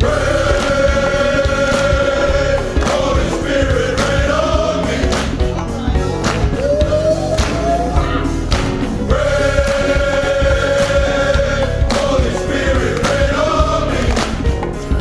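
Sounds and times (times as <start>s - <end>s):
drums hitting steadily: 0.0s - 15.0s
live band playing: 0.0s - 15.0s
men's choir singing: 0.0s - 15.0s.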